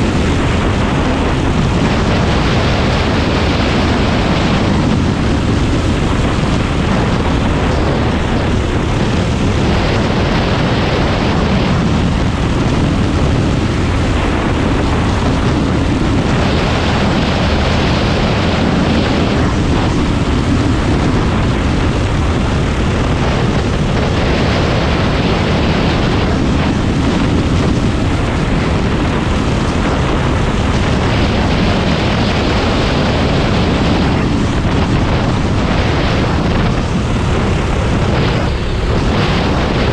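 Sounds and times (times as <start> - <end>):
engine running hard: 0.0 - 39.9
wind rushing over microphone: 0.0 - 39.9.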